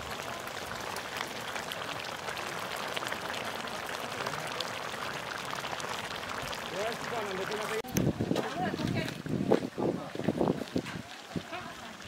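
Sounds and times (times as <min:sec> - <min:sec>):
curry bubbling and sizzling: 0:00.0 - 0:12.0.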